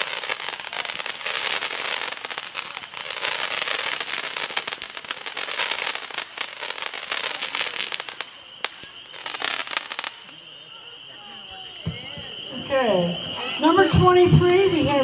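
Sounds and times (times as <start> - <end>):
firework candles firing: 0.0 - 15.0.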